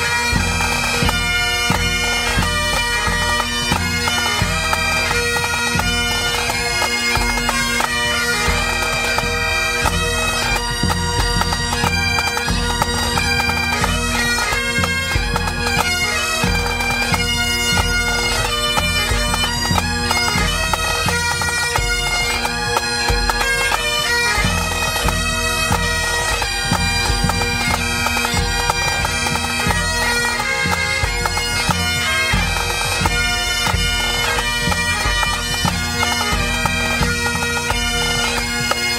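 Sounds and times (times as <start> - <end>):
bagpipes with drones: 0.0 - 38.9.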